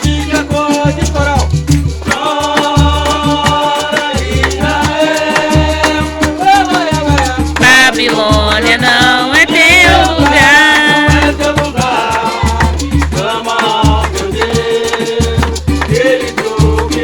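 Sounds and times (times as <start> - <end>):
live band playing gospel music: 0.0 - 17.0.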